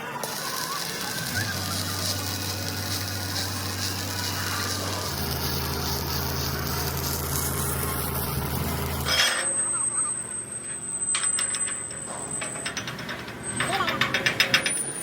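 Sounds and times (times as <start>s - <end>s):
machinery clattering and rattling: 0.0s - 15.0s
low steady hum: 1.2s - 14.5s.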